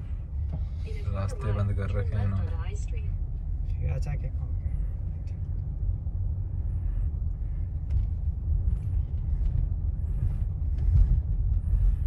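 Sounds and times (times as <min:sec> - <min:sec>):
car driving rumble from inside: 0:00.0 - 0:12.0.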